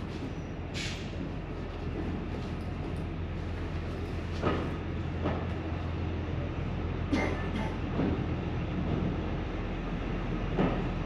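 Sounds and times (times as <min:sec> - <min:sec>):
railcar engine humming: 0:00.0 - 0:11.0.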